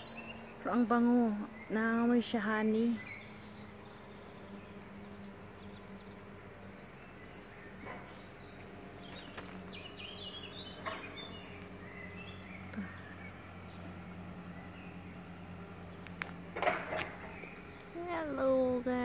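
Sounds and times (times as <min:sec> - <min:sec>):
bees buzzing: 0:00.0 - 0:19.0
bird chirps: 0:00.0 - 0:19.0.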